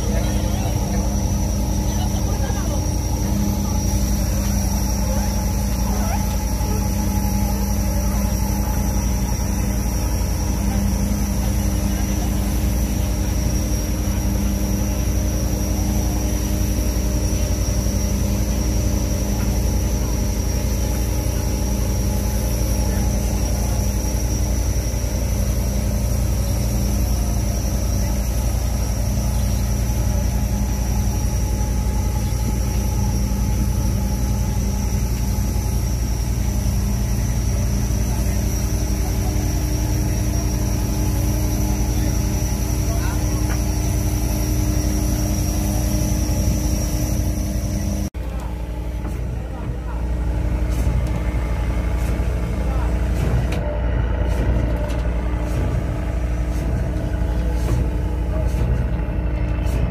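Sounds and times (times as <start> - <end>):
machinery droning: 0.0 - 59.9.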